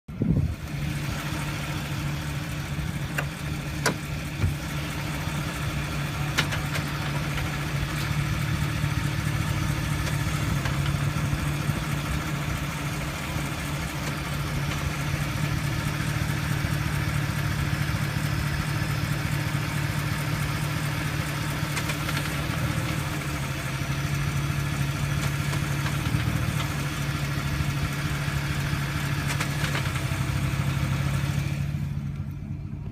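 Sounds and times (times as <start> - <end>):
pickup engine idling: 0.1 - 32.9.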